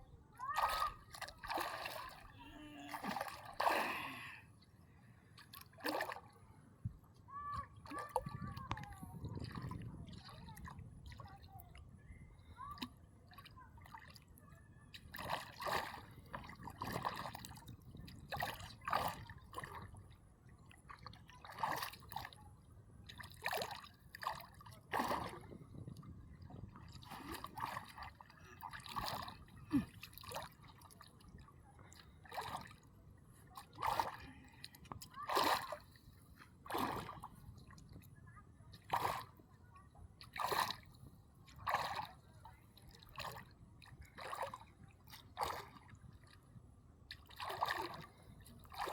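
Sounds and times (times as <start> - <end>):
water splashing and sloshing: 0.4 - 11.8, 12.5 - 48.9.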